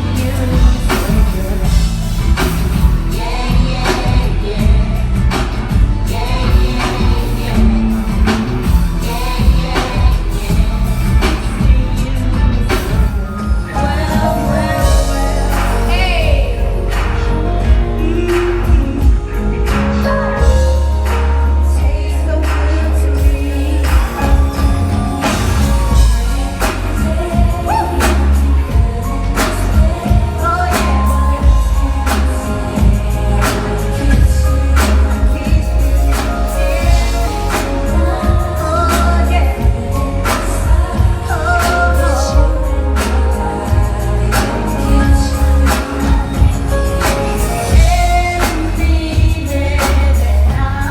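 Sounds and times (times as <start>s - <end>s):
heavy bass line: 0.0s - 50.9s
person singing: 0.0s - 50.9s
steady drum beat: 0.0s - 50.9s.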